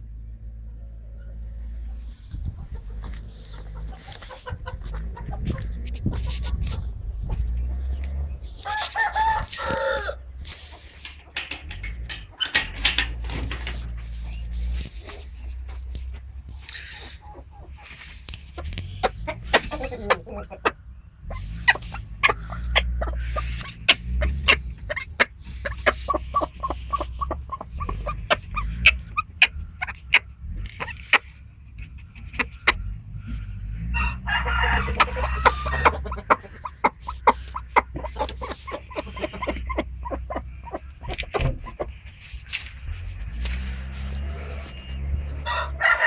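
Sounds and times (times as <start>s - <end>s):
chickens clucking: 0.1s - 46.0s.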